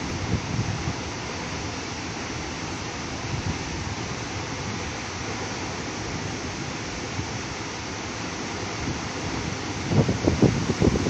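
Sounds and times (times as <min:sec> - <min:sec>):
waterfall rushing: 0:00.0 - 0:11.0
wind rumble on microphone: 0:00.0 - 0:11.0.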